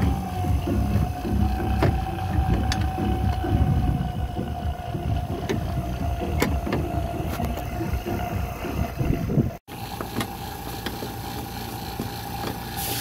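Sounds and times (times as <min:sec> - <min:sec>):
vacuum pump whining: 0:00.0 - 0:13.0.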